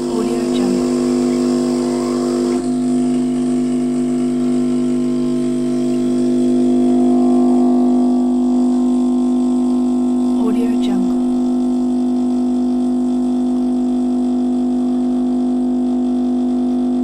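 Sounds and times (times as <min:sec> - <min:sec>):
espresso machine humming: 0:00.0 - 0:17.0.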